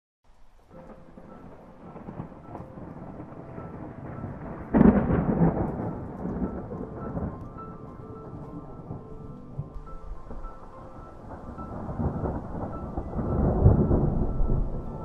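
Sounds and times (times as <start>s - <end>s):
rain hissing: 0.3s - 15.0s
thunder rumbling: 0.4s - 15.0s.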